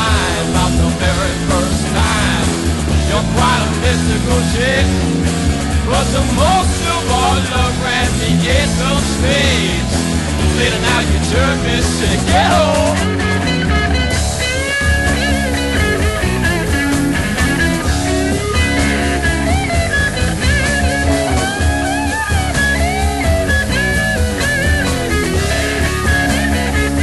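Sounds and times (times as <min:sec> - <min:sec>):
rock music with electric guitar: 0:00.0 - 0:27.0.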